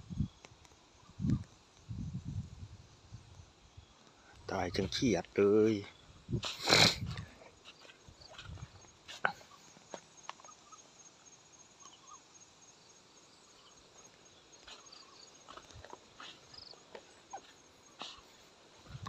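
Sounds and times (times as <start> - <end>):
pulsing high insect call: 0.0 - 19.0
faint chirps: 3.0 - 19.0.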